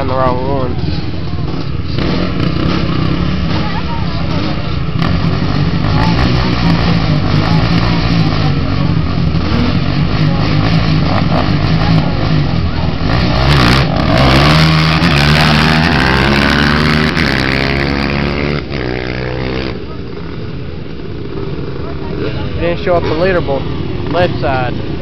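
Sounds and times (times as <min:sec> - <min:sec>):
dirt bike and quad engines revving: 0:00.0 - 0:25.0.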